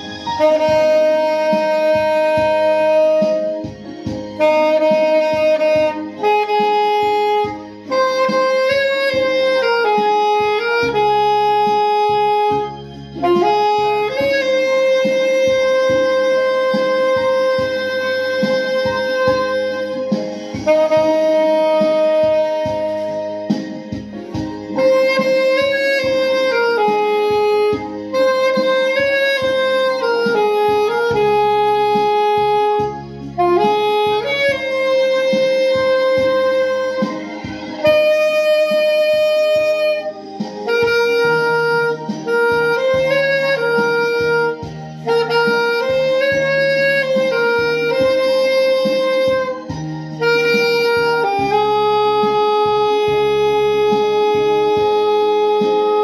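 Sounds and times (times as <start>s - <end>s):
alto saxophone ballad: 0.0s - 56.0s
backing accompaniment: 0.0s - 56.0s.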